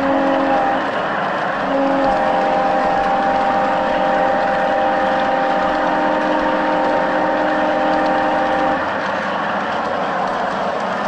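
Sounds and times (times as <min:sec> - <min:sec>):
model locomotive motor hum: 0:00.0 - 0:09.1
wheels rolling on track: 0:00.0 - 0:11.0.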